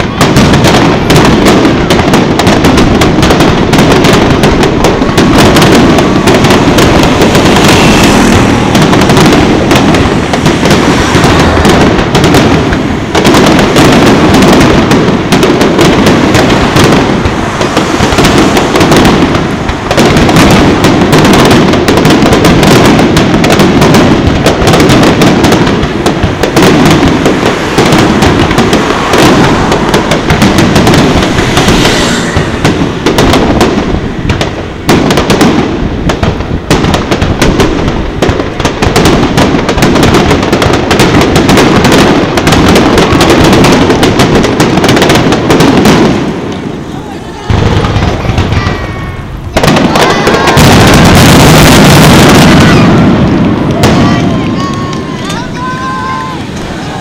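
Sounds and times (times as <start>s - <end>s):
fireworks booming and crackling: 0.0s - 57.0s.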